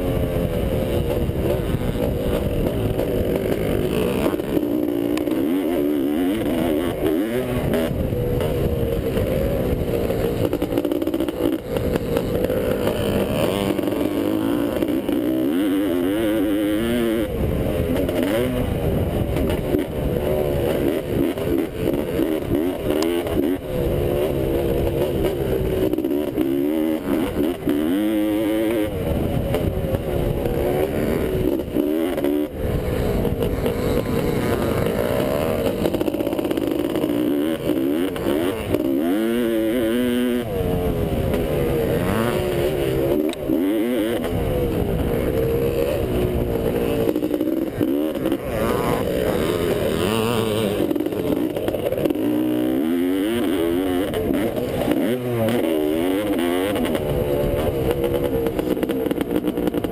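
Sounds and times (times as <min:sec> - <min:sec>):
two-stroke motorcycle engine revving: 0:00.0 - 0:59.9.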